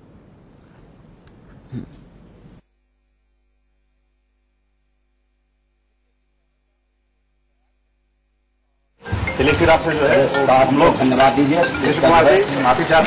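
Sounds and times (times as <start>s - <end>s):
faint electrical hum: 0.0s - 13.0s
room noise: 0.0s - 13.0s.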